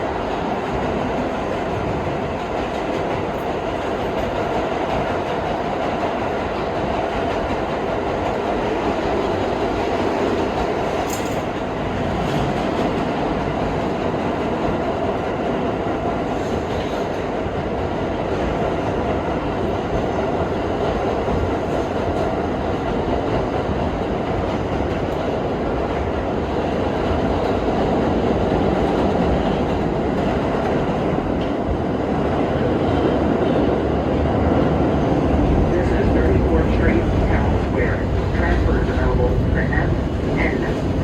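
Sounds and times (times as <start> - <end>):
subway train wheels rumbling: 0.0 - 41.0.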